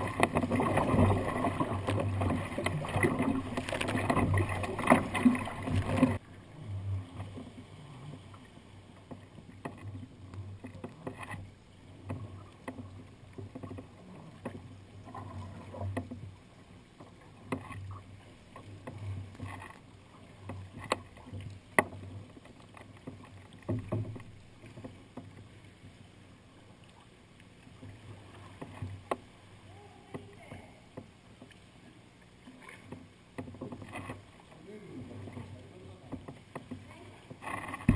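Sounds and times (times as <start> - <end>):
paddle splashing and dripping: 0.0 - 37.9
waves washing against kayak: 0.0 - 37.9
wind: 0.0 - 37.9.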